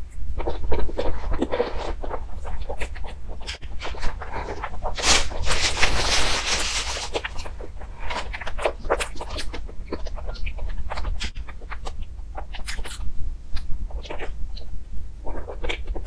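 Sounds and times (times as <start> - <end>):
rustling: 0.0 - 16.0
wet chewing and smacking: 0.3 - 5.4, 7.1 - 16.0.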